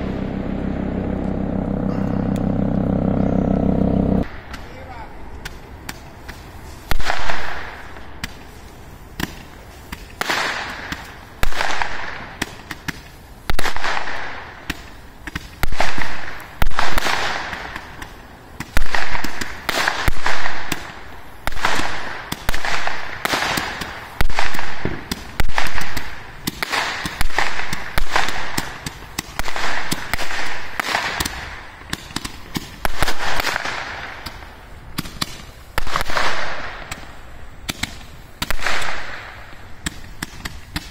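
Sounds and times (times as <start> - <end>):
fireworks shots rushing bursts: 0.0 - 40.9
sharp cracks and pops: 5.4 - 40.9.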